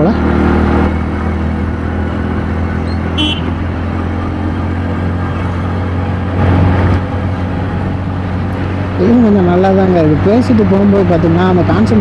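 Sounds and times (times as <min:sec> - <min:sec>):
motorcycle engine running: 0:00.0 - 0:12.0
traffic noise: 0:00.0 - 0:12.0
wind and road noise: 0:00.0 - 0:12.0.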